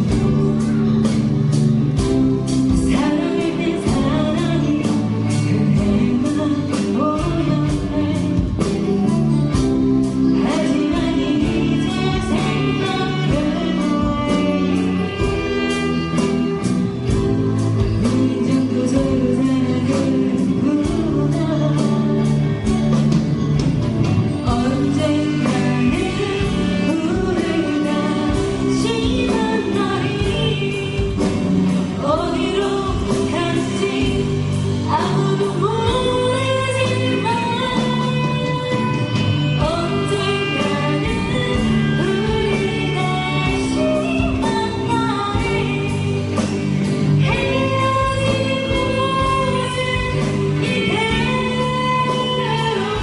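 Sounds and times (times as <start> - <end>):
person singing: 0.0 - 23.0, 24.2 - 53.0
live band playing: 0.0 - 53.0.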